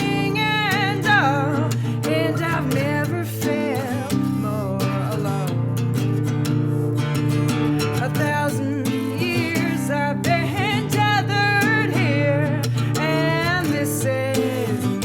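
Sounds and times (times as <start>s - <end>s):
woman singing with vibrato: 0.0s - 5.7s, 7.8s - 15.0s
strummed acoustic guitar: 0.0s - 15.0s.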